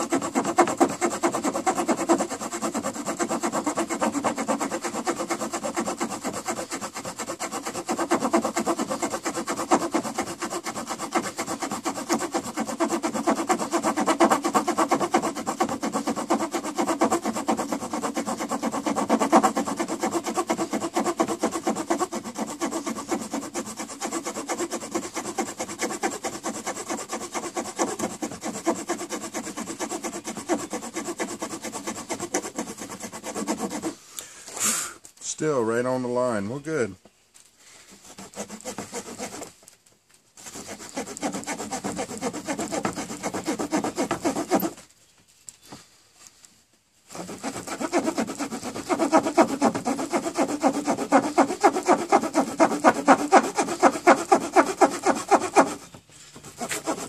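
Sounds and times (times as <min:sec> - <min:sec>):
saw rasping through wood: 0:00.0 - 0:34.1, 0:37.8 - 0:39.7, 0:40.4 - 0:44.9, 0:47.1 - 0:57.0.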